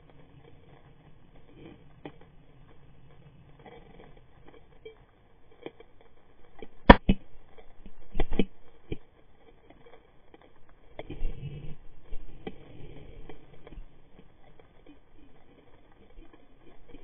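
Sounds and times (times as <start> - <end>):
underwater clicks and snaps: 3.1 - 17.0.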